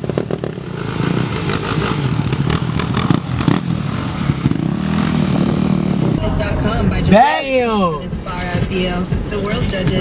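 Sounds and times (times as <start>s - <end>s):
dirt bike engines: 0.0s - 10.0s.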